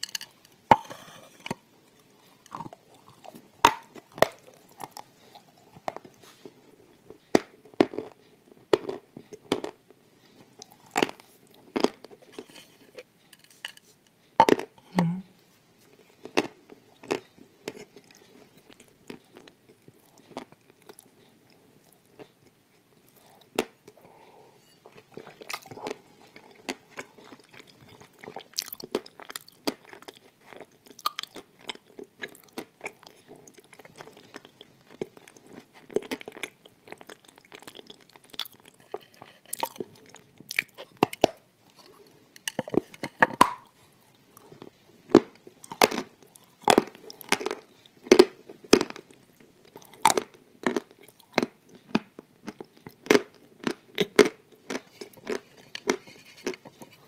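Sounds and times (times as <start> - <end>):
clay being chewed with crunches: 0.0 - 14.8, 15.9 - 57.0.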